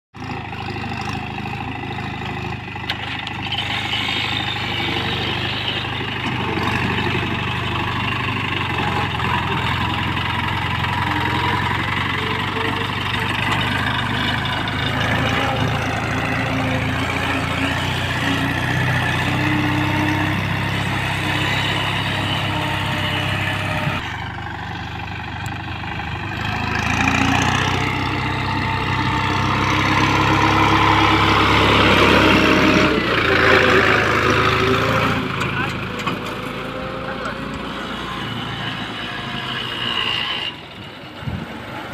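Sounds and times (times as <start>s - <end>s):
tractor diesel engine running: 0.1s - 41.9s.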